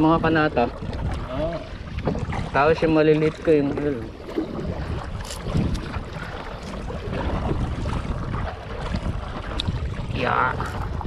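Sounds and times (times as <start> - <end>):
water washing around kayak: 0.0 - 11.0
wind rumbling on microphone: 0.0 - 11.0.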